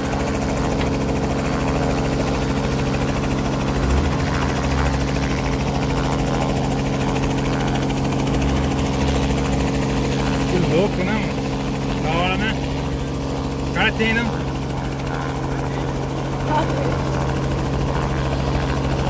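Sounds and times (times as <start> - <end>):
helicopter engine and rotor running: 0.0 - 19.0.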